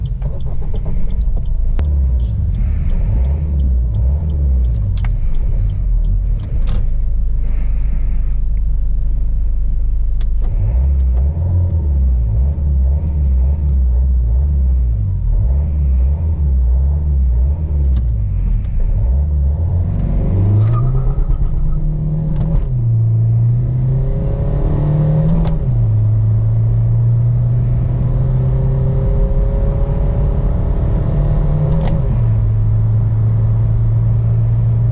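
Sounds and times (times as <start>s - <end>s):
diesel car engine accelerating: 0.0s - 34.9s.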